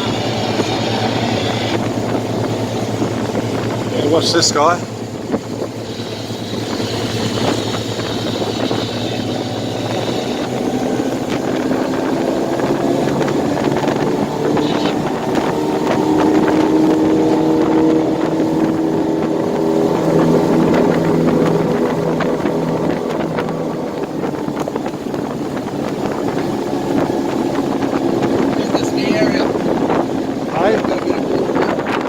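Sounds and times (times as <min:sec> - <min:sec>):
outboard motors running: 0:00.0 - 0:32.0
water noise: 0:00.0 - 0:32.0
wind: 0:00.0 - 0:32.0.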